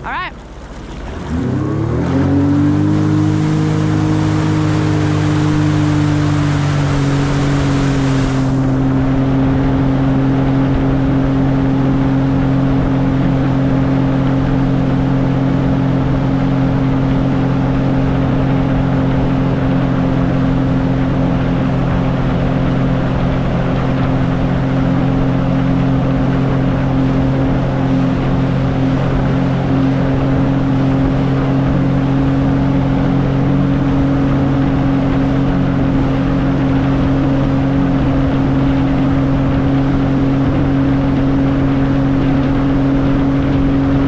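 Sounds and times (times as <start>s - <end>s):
engine revving: 0.9s - 44.0s.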